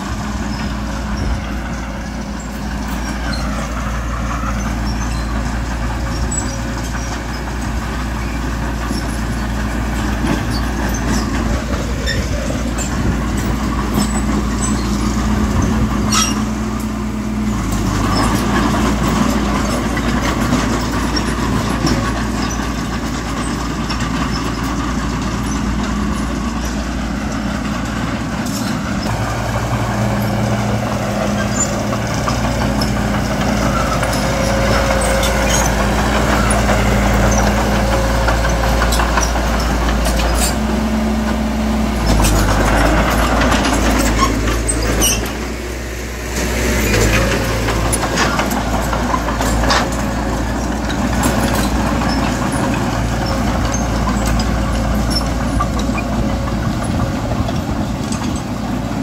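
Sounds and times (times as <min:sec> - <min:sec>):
heavy machinery diesel engines: 0:00.0 - 0:59.0.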